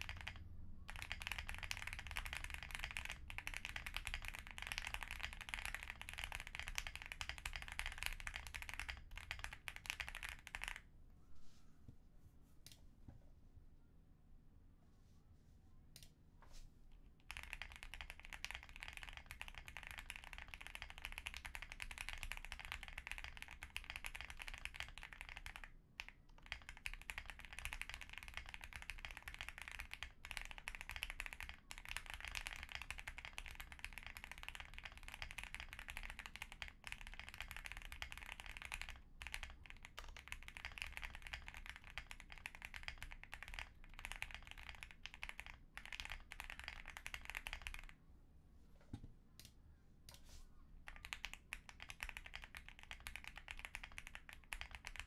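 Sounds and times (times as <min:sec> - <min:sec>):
mechanical keyboard typing: 0:00.0 - 0:10.8, 0:17.2 - 0:48.0, 0:50.9 - 0:55.0.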